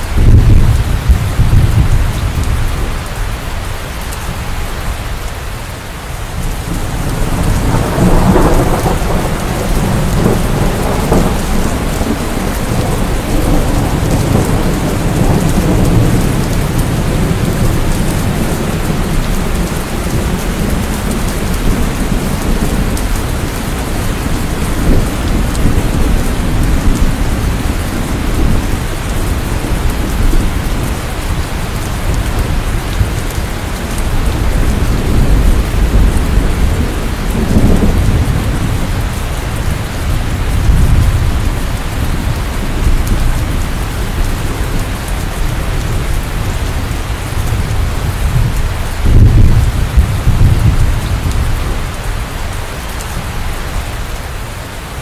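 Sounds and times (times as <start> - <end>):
thunder rumbling: 0.0 - 3.2, 6.2 - 55.0
heavy rain: 0.0 - 55.0.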